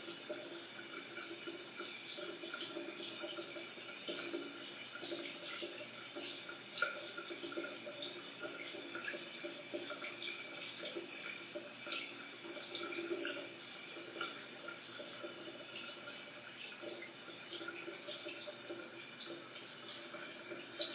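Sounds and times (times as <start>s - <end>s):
water drips and splashes: 0.0s - 20.9s.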